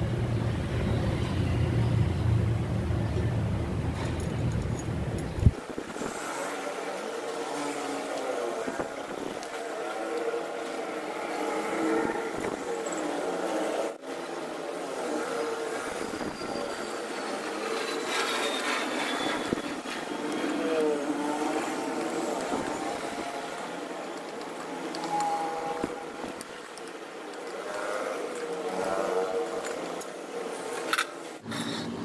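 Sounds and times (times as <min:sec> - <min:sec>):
vehicle engines humming: 0:00.0 - 0:32.0.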